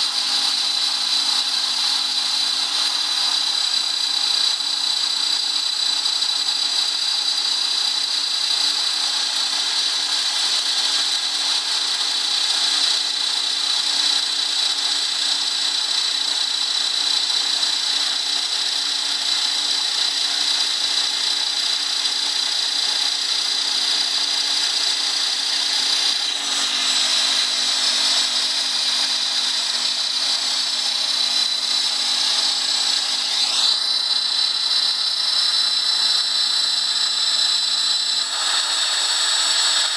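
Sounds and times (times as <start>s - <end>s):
router motor high whine: 0.0s - 39.9s.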